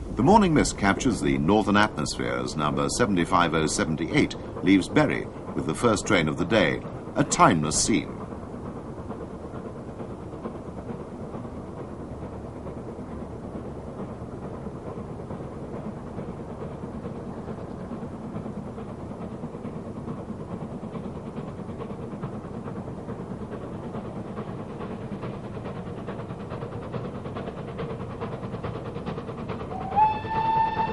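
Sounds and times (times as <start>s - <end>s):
steam locomotive running: 0.0s - 30.9s.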